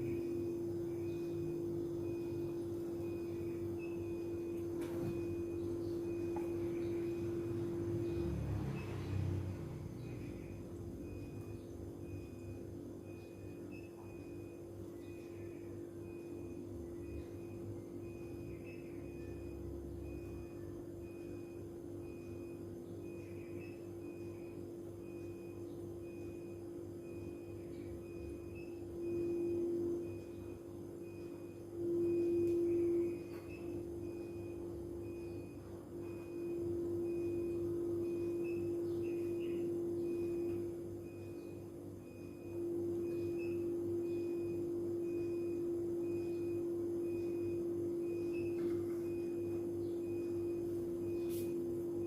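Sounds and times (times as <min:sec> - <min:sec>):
faint high beep: 0:00.0 - 0:52.0
steady hum: 0:00.0 - 0:52.0.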